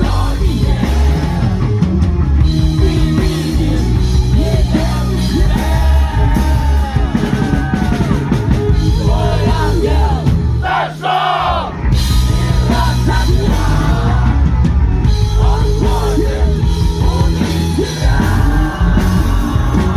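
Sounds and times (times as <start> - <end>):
man singing and yelling: 0.0 - 1.8, 2.4 - 19.9
heavy metal band playing: 0.0 - 19.9.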